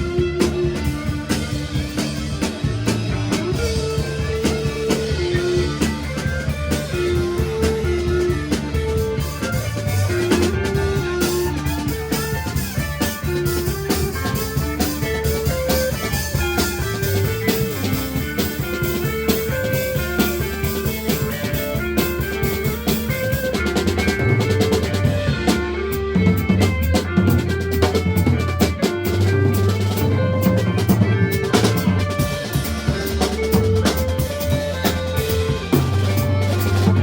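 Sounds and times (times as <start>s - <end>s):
driving drum kit: 0.0s - 37.0s
rock band playing instrumental: 0.0s - 37.0s.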